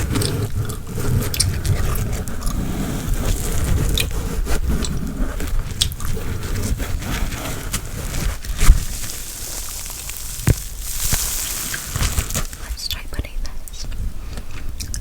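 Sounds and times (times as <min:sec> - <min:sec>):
gum chewing: 0:00.0 - 0:05.0, 0:05.6 - 0:12.7, 0:14.3 - 0:15.0.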